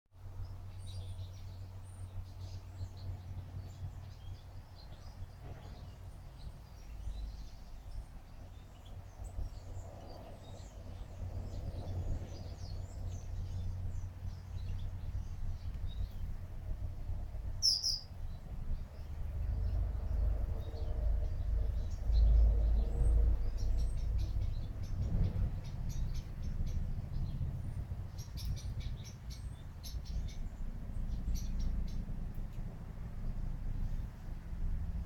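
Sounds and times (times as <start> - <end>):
low background hum: 0.2 - 35.0
small birds chirping: 0.2 - 35.0.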